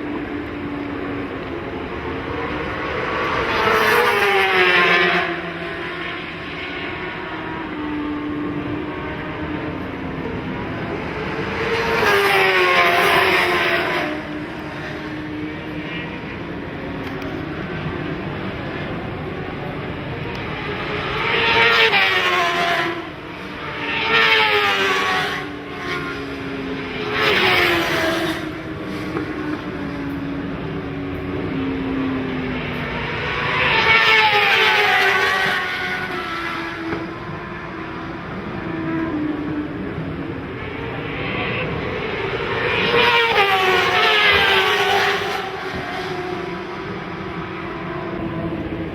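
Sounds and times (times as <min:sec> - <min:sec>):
motorcycles running around track: 0:00.0 - 0:48.9
racing motorcycles passing by: 0:00.0 - 0:48.9.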